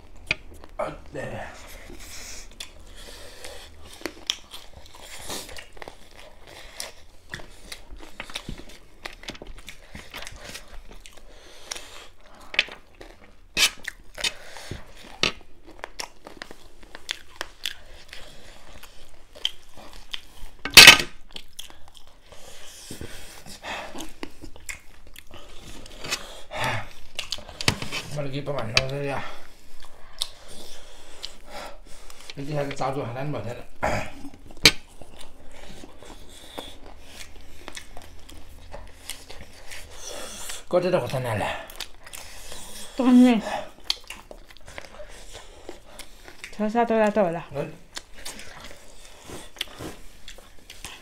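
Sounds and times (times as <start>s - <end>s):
crunching and chewing snack: 0.0s - 33.1s, 33.8s - 46.6s, 47.5s - 51.0s.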